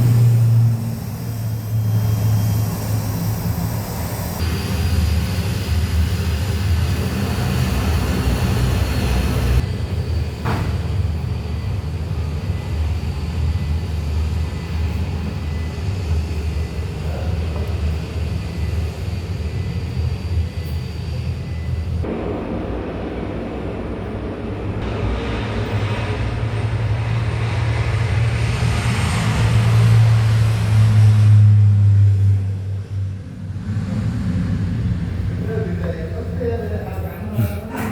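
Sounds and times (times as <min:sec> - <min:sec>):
aeroplane engines droning: 0:00.0 - 0:37.9
high engine whine: 0:00.0 - 0:37.9.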